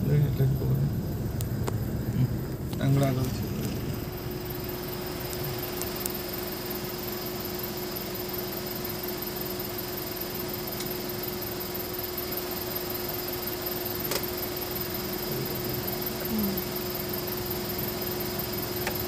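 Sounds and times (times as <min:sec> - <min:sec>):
low hum: 0:00.0 - 0:19.0
steady hiss: 0:00.0 - 0:19.0.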